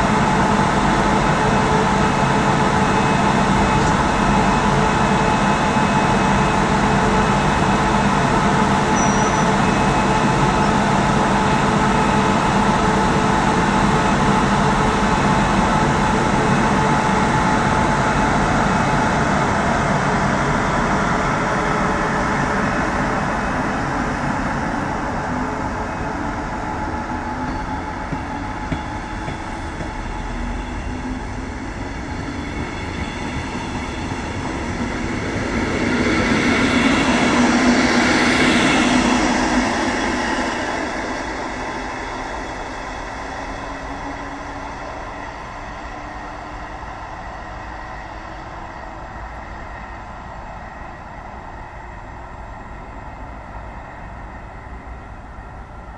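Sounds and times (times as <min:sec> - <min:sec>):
train wheels rolling on rails: 0:00.0 - 0:55.9.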